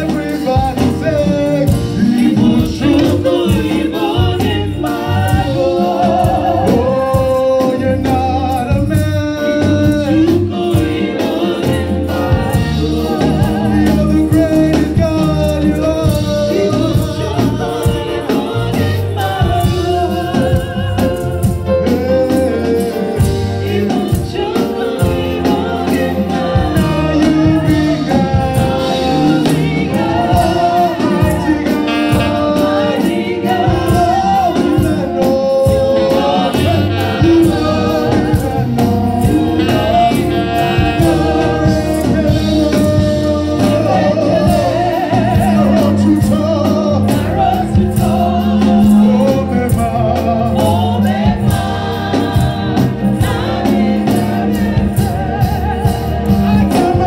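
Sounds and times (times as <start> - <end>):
choir singing: 0.0 - 57.0
keyboard: 0.0 - 57.0
lead singer singing: 0.0 - 57.0
percussion beat: 0.0 - 57.0.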